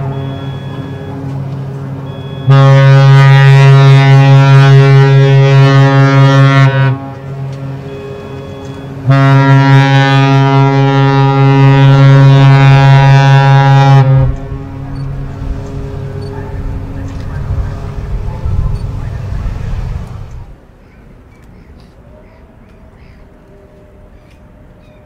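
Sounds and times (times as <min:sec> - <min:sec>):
deep ship horn blasts: 0:00.0 - 0:20.6.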